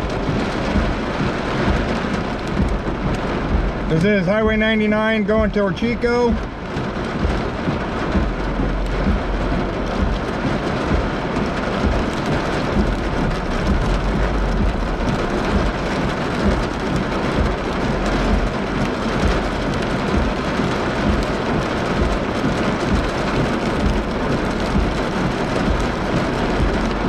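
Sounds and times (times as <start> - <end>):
heavy rain on car roof: 0.0 - 27.0
low rumble: 0.0 - 27.0.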